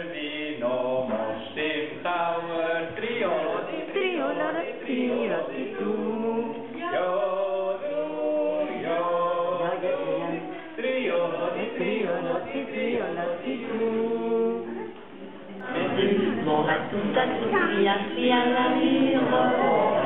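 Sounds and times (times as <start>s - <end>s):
group singing without instruments: 0.0s - 20.0s.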